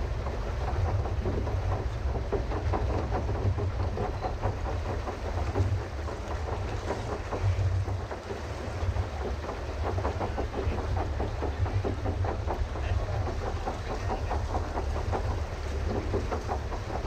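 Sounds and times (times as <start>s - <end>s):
paddle wheel splashing water: 0.0s - 17.0s
pedal boat rumble: 0.0s - 17.0s.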